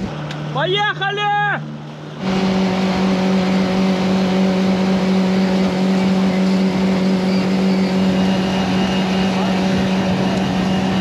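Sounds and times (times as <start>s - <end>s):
boat engine droning: 0.0s - 11.0s
rushing water: 0.0s - 11.0s
wind: 0.0s - 11.0s.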